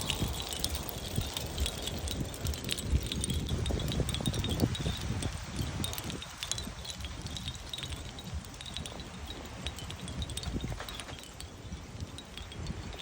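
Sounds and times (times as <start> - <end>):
low wind rumble: 0.0 - 13.0
seashell wind chimes clinking: 0.0 - 13.0.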